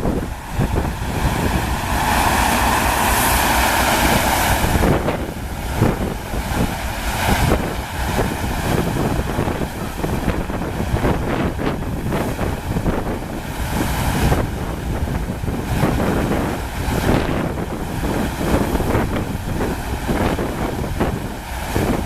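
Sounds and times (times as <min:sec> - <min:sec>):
rushing water: 0:00.0 - 0:22.0
wind buffeting microphone: 0:00.0 - 0:22.0.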